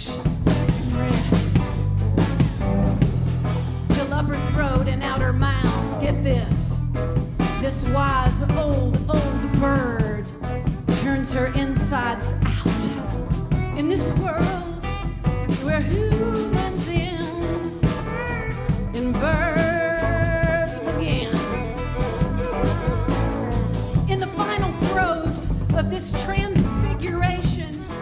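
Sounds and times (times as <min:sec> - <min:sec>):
drums keeping time: 0:00.0 - 0:28.0.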